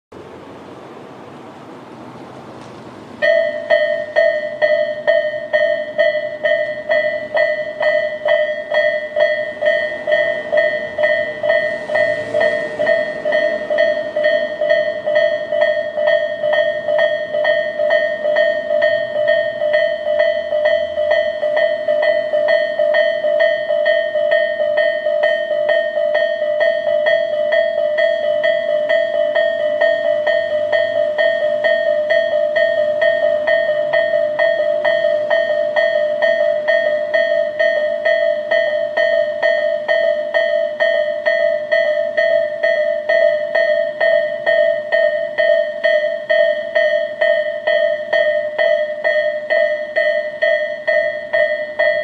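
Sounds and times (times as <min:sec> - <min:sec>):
level crossing warning bell: 0:03.0 - 0:52.0.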